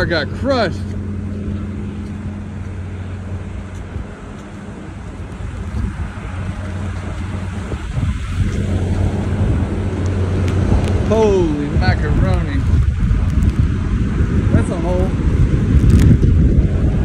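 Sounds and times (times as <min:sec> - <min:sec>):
steady low hum: 0:00.0 - 0:17.0
strong wind buffeting: 0:00.0 - 0:17.0.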